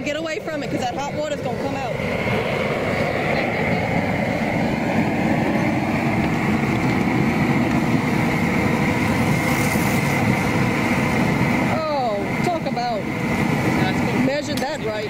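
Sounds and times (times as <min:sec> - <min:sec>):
gas burner rushing: 0:00.0 - 0:15.0.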